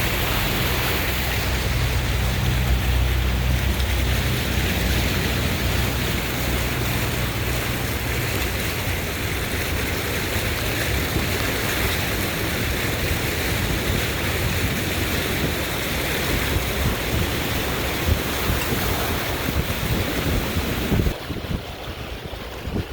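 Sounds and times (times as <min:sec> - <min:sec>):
floodwater rushing: 0:00.0 - 0:22.9
wind rumble on microphone: 0:00.0 - 0:22.9.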